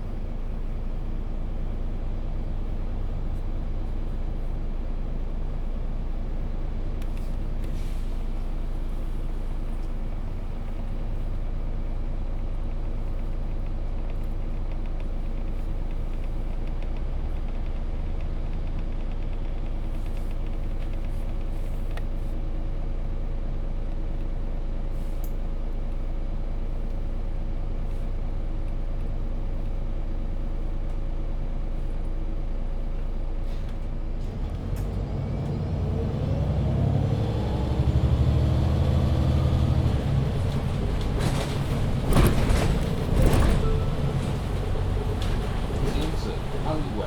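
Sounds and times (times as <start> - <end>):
bus diesel engine idling and revving: 0.0 - 47.0.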